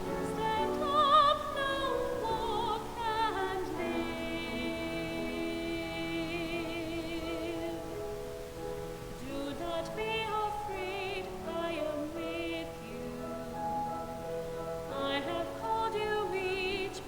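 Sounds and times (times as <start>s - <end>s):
solo voice singing with vibrato: 0.0s - 17.0s.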